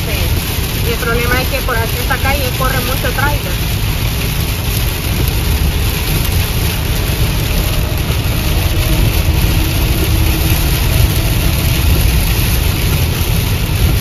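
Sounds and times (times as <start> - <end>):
rain hitting car: 0.0 - 14.0
tyres rumbling on wet road: 0.0 - 14.0.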